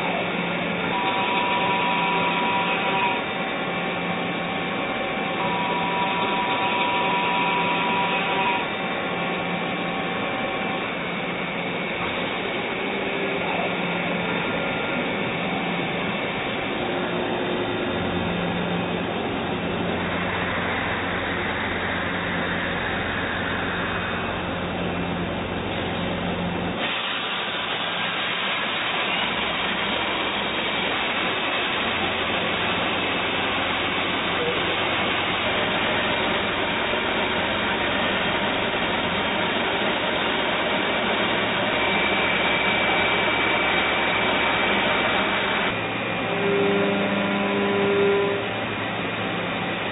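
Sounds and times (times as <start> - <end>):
machine cutting metal: 0.0 - 49.9.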